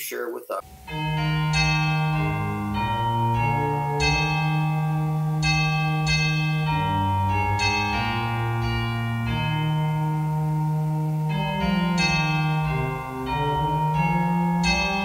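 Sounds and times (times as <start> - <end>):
held low notes: 0.2 - 15.0
slow chime-like melody: 0.6 - 15.0.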